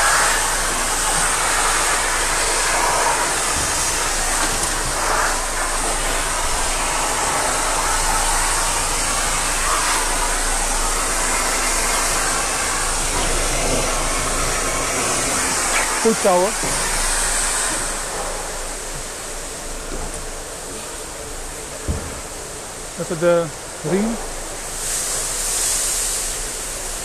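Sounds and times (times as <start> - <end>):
blower dryer air rushing: 0.0 - 27.0.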